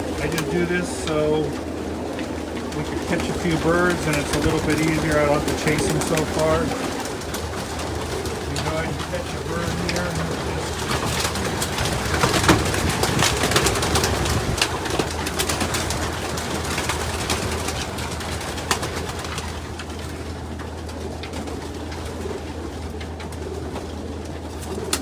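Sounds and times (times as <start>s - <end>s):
low steady hum: 0.0s - 25.0s
pigeons cooing: 0.0s - 25.0s
wing flaps and scuffling: 0.0s - 25.0s.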